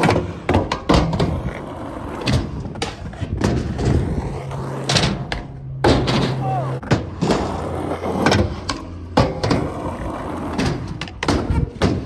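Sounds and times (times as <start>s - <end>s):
skateboard banging on metal ramps: 0.0s - 12.0s
skateboard wheels rolling: 0.0s - 12.0s.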